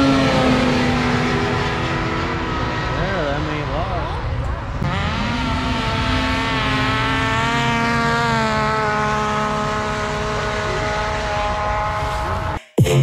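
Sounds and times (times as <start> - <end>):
snowmobile engine whine: 0.0 - 12.7.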